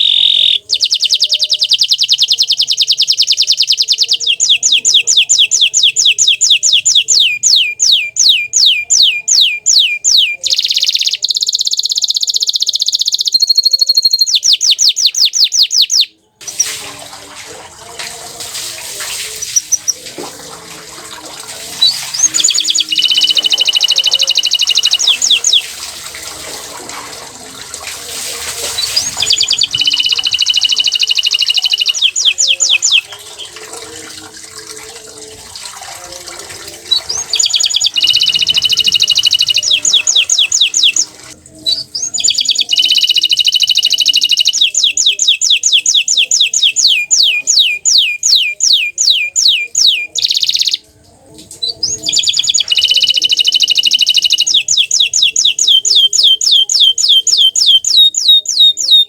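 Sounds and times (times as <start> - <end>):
canary singing trills: 0.0 - 16.7, 19.3 - 20.0, 21.8 - 25.8, 28.6 - 35.4, 36.8 - 50.9, 51.6 - 59.0.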